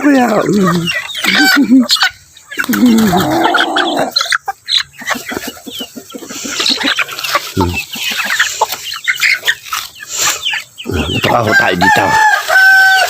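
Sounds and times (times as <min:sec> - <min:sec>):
chickens clucking: 0:00.0 - 0:13.0
longer chicken calls: 0:00.1 - 0:13.0.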